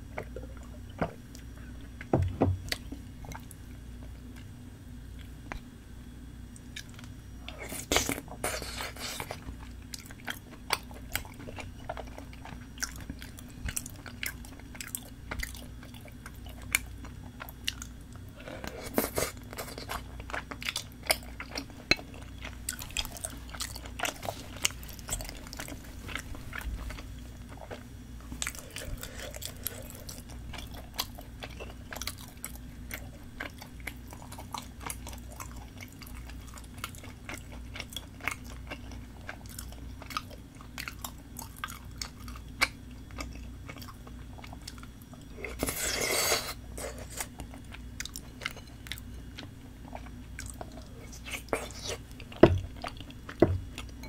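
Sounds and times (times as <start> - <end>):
person chewing rice cakes: 6.6 - 54.0.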